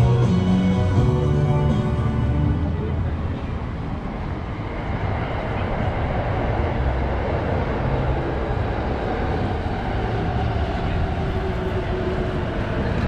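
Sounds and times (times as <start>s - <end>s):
train rumbling on viaduct: 0.0s - 13.0s.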